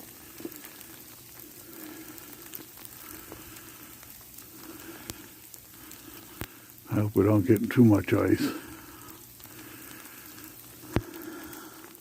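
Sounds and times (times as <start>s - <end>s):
freezing rain hissing: 0.0s - 12.0s.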